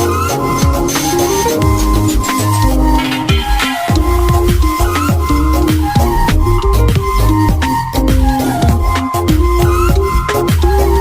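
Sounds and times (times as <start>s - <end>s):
electronic pop music: 0.0s - 11.0s.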